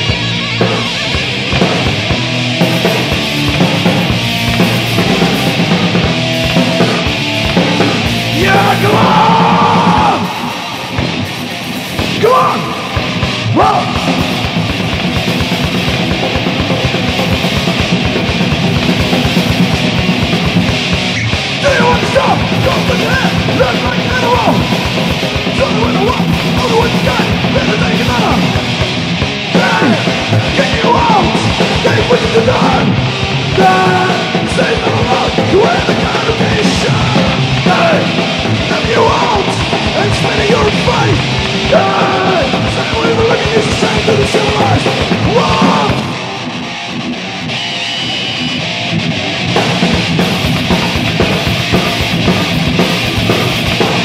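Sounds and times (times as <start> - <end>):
fast drumming: 0.0 - 47.6, 48.9 - 54.0
distorted electric guitars: 0.0 - 54.0.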